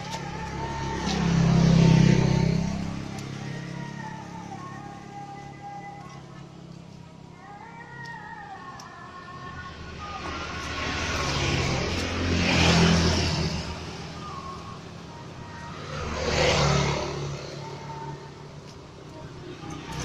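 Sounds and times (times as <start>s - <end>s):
motor vehicles passing: 0.0s - 20.0s.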